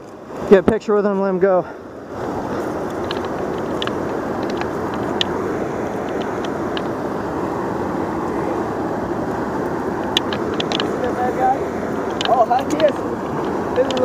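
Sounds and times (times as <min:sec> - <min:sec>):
river water rushing through rapids: 0:00.0 - 0:01.0, 0:01.6 - 0:14.0.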